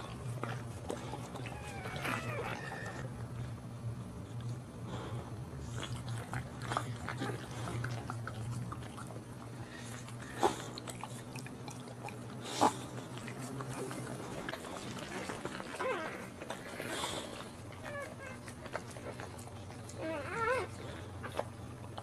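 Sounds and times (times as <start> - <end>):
dog licking puppies: 0.0 - 22.0
steady low hum: 0.0 - 22.0.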